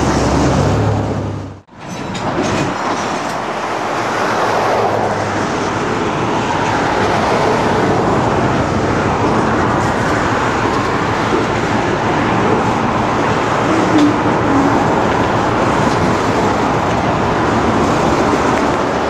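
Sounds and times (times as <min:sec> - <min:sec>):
freight train moving: 0:00.0 - 0:19.0.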